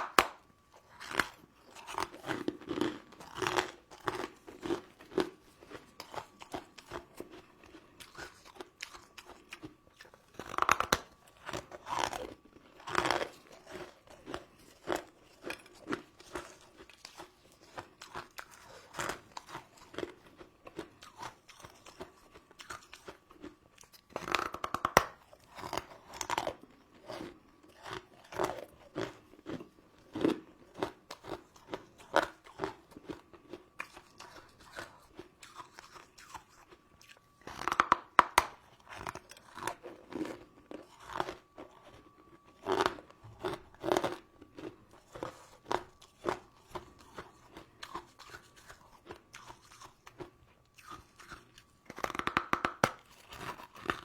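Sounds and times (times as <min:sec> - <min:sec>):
faint high tone hum: 0:00.0 - 0:52.2
crunching sweets: 0:00.0 - 0:54.0.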